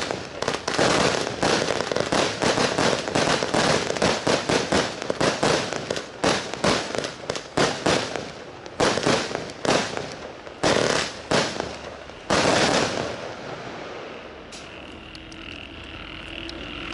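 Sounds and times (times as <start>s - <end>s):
firework cake crackling bursts: 0.0s - 14.8s.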